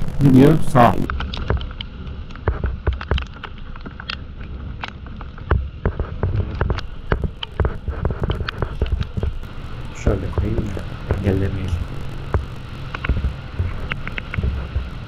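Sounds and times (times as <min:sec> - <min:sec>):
low wind rumble: 0:00.0 - 0:15.0
raindrops ticking on microphone: 0:00.0 - 0:15.0.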